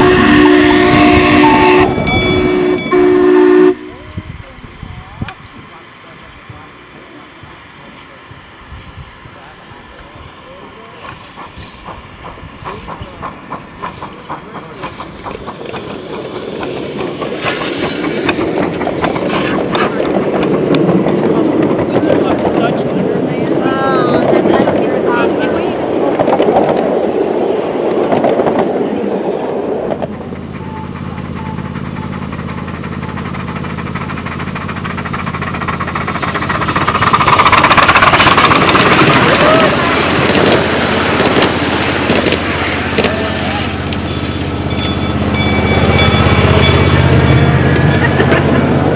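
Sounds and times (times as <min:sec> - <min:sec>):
steam locomotive chuffing: 0:00.0 - 0:48.9
wheels rumbling on rail: 0:00.0 - 0:48.9.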